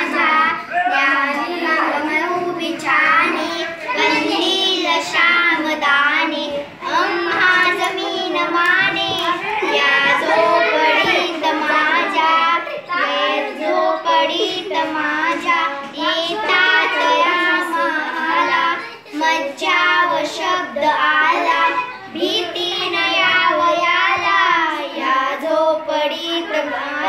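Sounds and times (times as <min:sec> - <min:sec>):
girls singing unaccompanied: 0:00.0 - 0:27.0.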